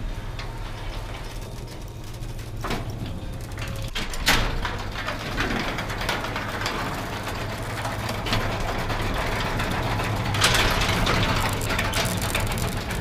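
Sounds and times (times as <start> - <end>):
garage door opener motor hum: 0.0 - 13.0
door sections clicking and rattling: 0.4 - 13.0.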